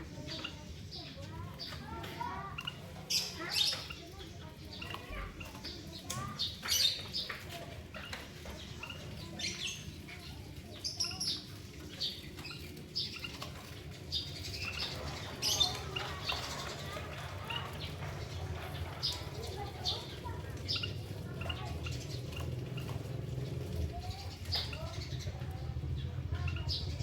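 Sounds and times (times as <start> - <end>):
finches chirping: 0.0 - 27.0
birds tapping in cage: 0.1 - 27.0.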